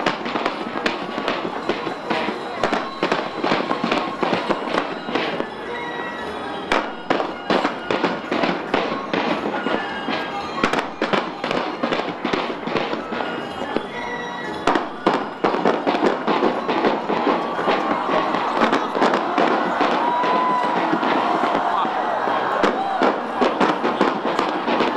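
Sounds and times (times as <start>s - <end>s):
fireworks crackle: 0.0s - 24.9s
fireworks sharp bangs: 0.0s - 24.9s.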